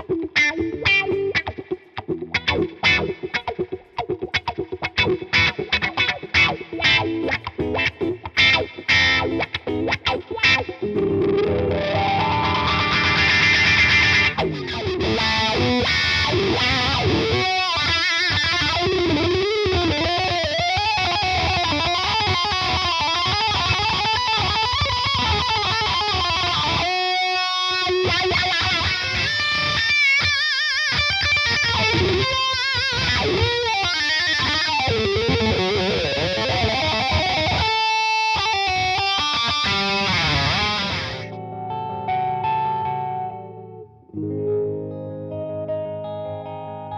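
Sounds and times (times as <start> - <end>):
electric guitar with wah pedal: 0.0 - 46.9.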